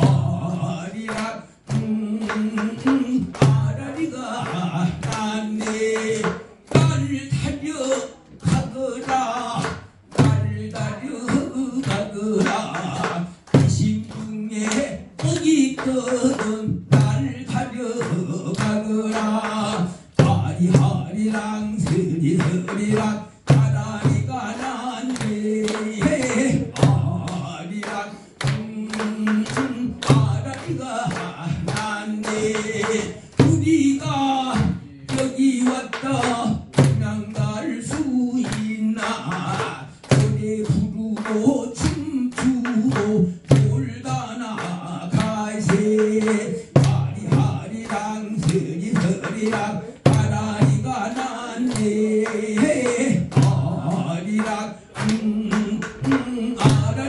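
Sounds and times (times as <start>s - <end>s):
man singing into a microphone: 0.0s - 57.0s.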